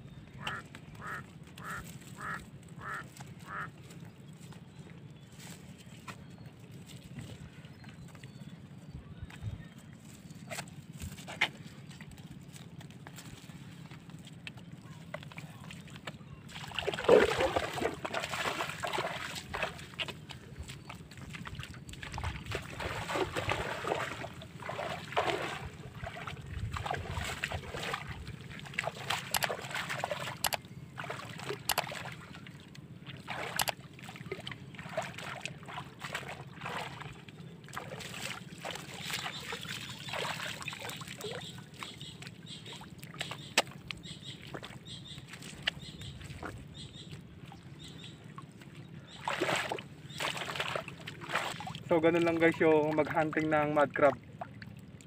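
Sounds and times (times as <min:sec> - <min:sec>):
water sloshing and splashing: 0:00.0 - 0:55.0.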